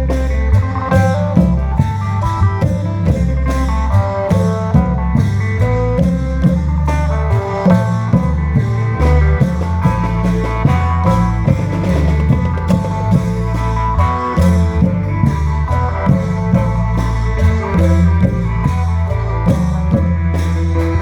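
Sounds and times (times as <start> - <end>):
heavy bass line: 0.0 - 21.0
plucked string melody: 0.0 - 21.0
steady drum beat: 0.0 - 21.0.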